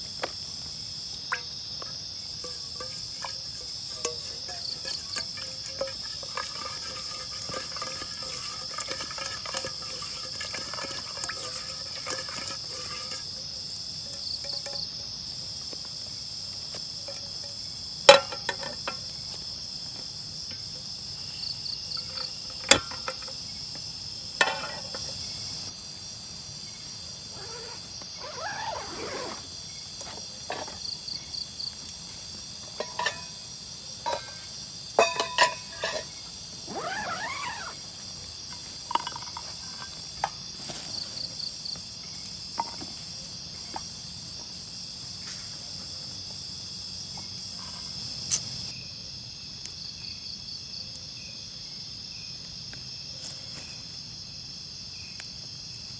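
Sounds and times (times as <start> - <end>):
crickets and night insects: 0.0 - 55.9.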